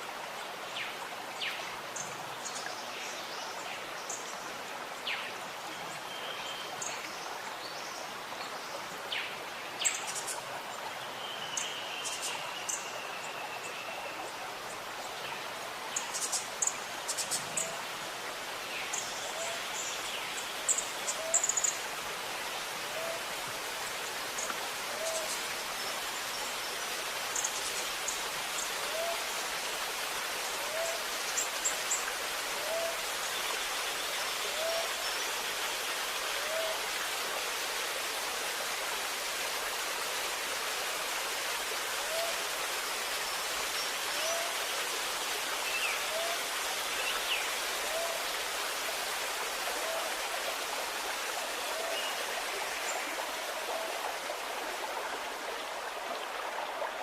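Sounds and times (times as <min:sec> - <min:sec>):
water rushing and gurgling: 0:00.0 - 0:57.0.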